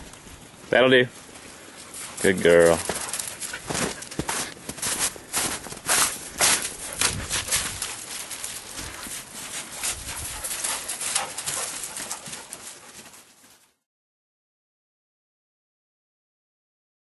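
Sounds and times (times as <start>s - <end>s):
footsteps crunching on snow: 0.1s - 13.8s.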